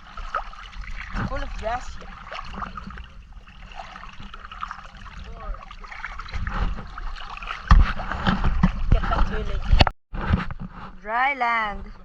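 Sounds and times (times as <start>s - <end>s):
seawater sloshing around wading: 0.0s - 9.9s.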